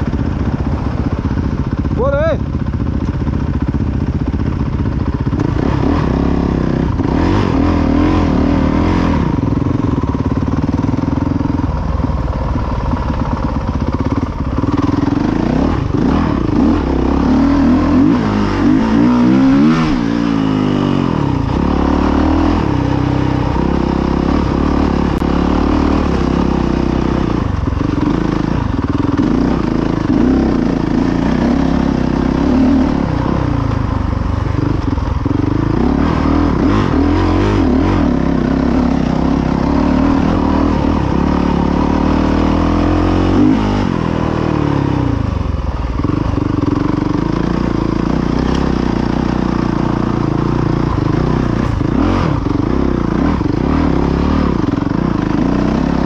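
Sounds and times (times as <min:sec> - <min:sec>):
dirt bike engine revving: 0:04.4 - 0:11.6, 0:12.9 - 0:56.0.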